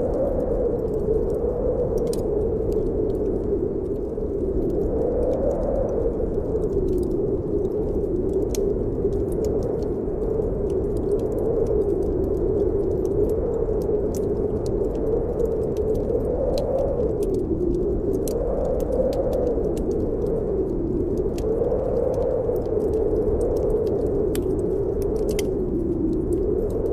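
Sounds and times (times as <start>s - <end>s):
wind howling: 0.0s - 26.9s
wood fire crackling: 0.0s - 26.9s.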